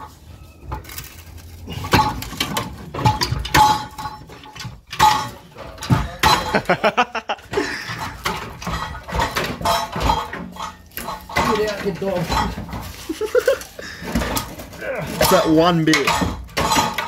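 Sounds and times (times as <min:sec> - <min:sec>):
metal pipe clanking and scraping: 0:00.0 - 0:17.0.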